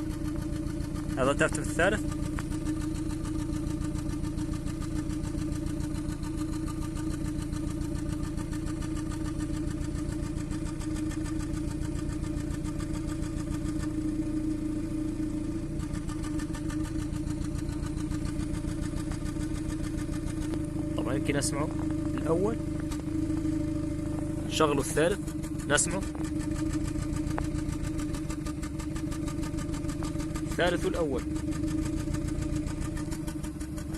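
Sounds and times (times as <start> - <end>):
car engine idling with sputter: 0.0 - 33.9.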